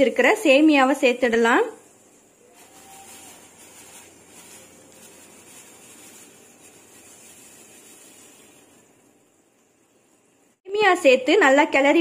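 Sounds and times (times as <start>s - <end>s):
boiling water hissing: 0.0s - 10.6s.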